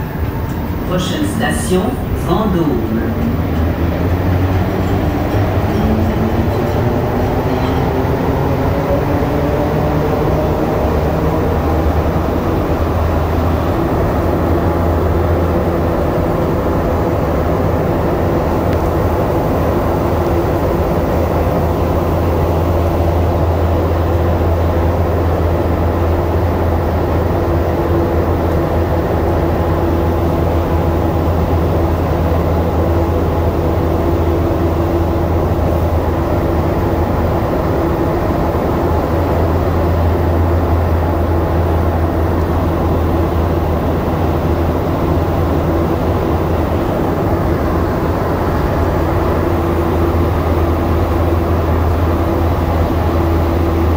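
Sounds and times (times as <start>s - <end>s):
steady higher tone: 0.0s - 53.9s
train rumble with low hum: 0.0s - 53.9s.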